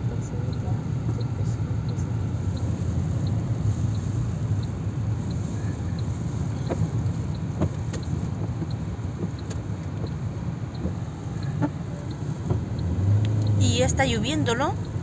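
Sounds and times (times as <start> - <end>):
engine and road rumble: 0.0 - 15.0
faint regular tick: 0.5 - 13.6.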